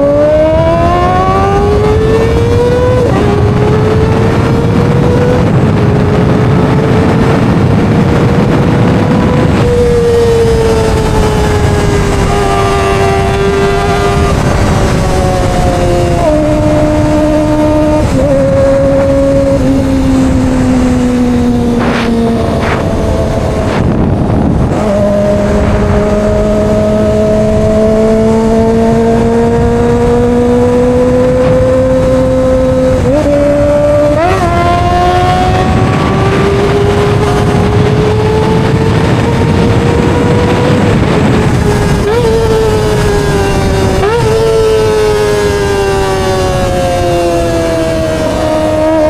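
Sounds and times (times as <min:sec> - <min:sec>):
motorcycle engine revving: 0:00.0 - 0:49.0
wind rushing: 0:00.0 - 0:49.0.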